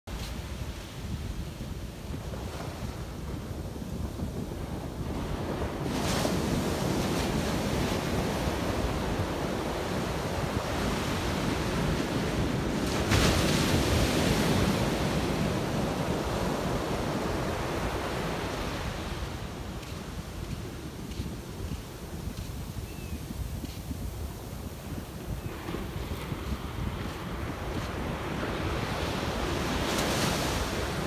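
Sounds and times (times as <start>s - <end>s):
small waves breaking on beach: 0.1s - 22.9s, 23.6s - 31.0s.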